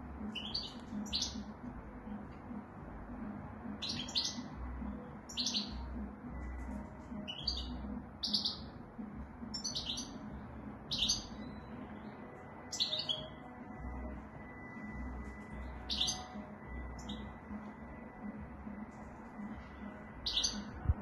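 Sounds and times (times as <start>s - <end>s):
goldfinch twittering song: 0.2s - 2.3s, 3.1s - 8.8s, 9.4s - 18.8s, 19.4s - 21.0s.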